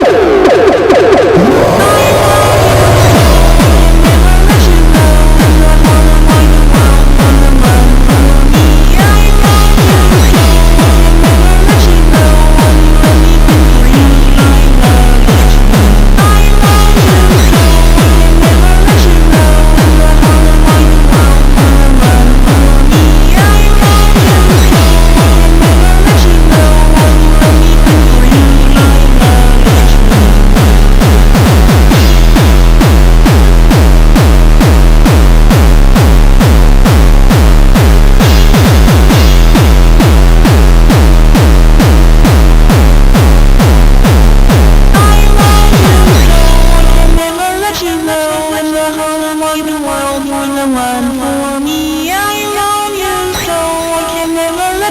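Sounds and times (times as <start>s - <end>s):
deep bass: 0.0s - 47.2s
synth tones: 0.0s - 47.2s
pounding kick drum: 0.0s - 47.3s
electronic dance music: 0.0s - 54.9s.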